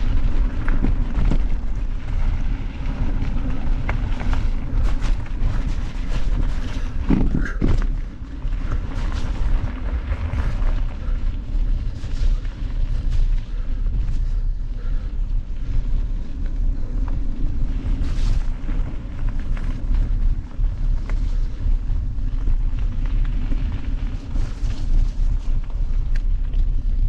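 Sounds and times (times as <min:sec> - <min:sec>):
bike clicks and rattles: 0:00.0 - 0:27.0
mountain bike rumbling on dirt: 0:00.0 - 0:27.0
wind buffeting microphone: 0:00.0 - 0:27.0.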